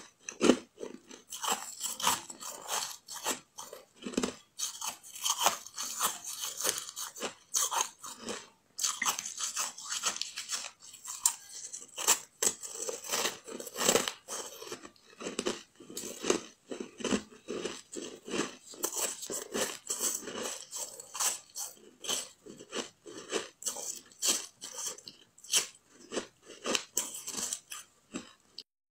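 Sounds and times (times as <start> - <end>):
crunching ice while chewing: 0.0 - 28.6.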